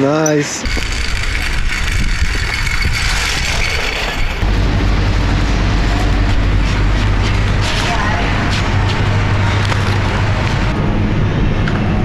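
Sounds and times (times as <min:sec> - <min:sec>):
vehicle engine hum: 0:00.7 - 0:12.0
wind rumble on microphone: 0:00.7 - 0:12.0.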